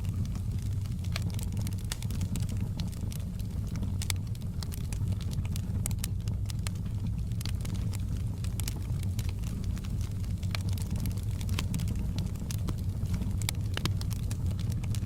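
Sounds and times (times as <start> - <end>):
wood fire roaring and crackling: 0.0 - 15.0.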